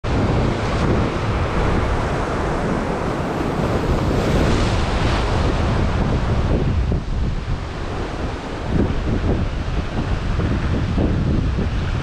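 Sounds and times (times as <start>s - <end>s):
surf breaking and washing ashore: 0.0s - 12.0s
wind buffeting microphone: 0.0s - 12.0s.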